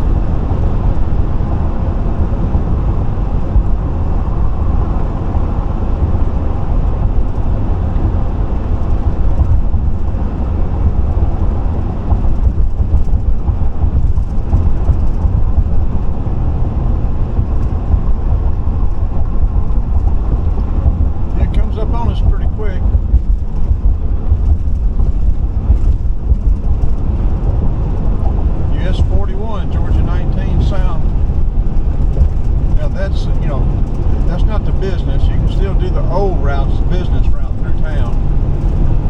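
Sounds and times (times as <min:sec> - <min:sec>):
car road noise at highway speed: 0:00.0 - 0:39.0.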